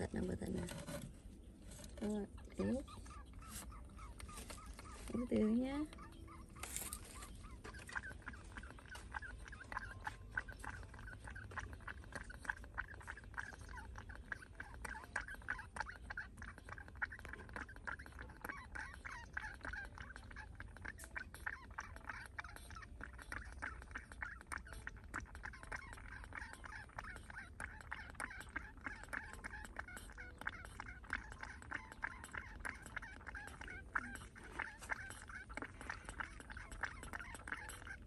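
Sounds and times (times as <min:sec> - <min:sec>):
small sucking clicks: 0:05.9 - 0:38.0.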